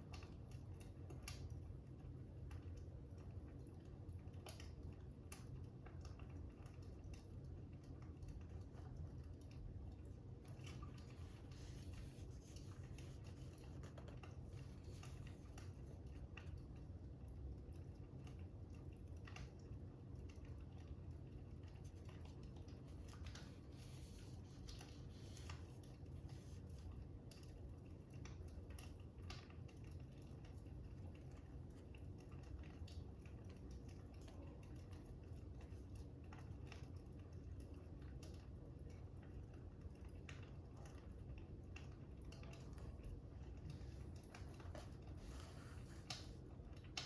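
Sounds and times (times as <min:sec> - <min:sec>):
low steady rumble: 0:00.0 - 0:47.0.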